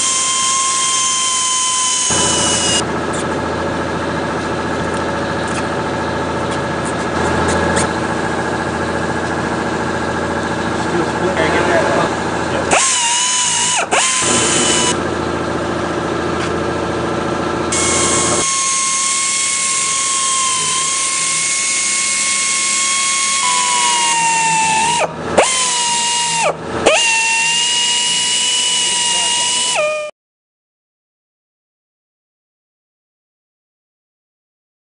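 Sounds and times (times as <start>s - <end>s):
power tool whining: 0.0s - 30.1s.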